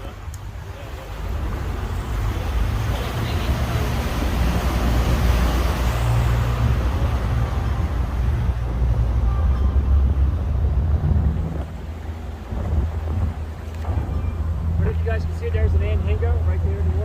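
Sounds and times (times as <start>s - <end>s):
boat motor running: 0.0s - 17.0s
wind rumbling on microphone: 0.0s - 17.0s.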